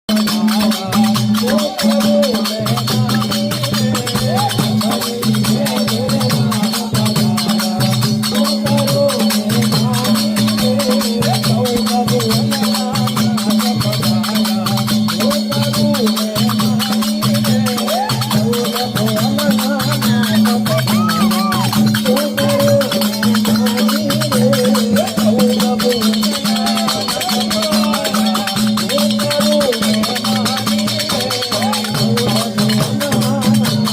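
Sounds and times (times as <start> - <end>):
rattling hand percussion: 0.1 - 33.9.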